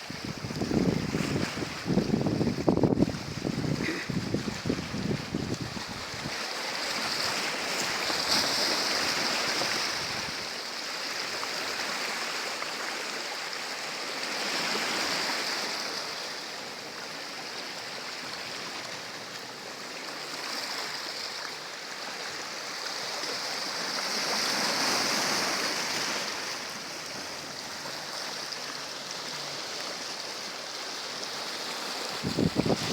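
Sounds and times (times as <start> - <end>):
sea waves washing ashore: 0.0 - 32.9.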